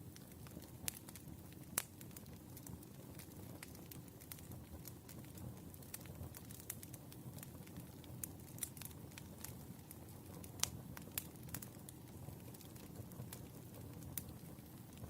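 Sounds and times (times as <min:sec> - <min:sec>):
fire crackles and pops: 0:00.0 - 0:15.0
firewood burning rumble: 0:00.0 - 0:15.0.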